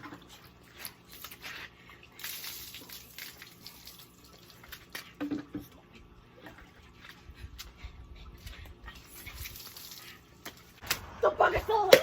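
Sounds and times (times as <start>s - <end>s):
water splashing and dripping: 0.0s - 11.1s.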